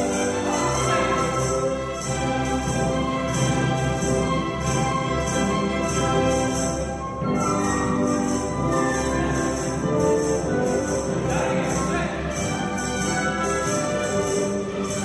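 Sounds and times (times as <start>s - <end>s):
orchestra with violins playing dance: 0.0s - 15.0s.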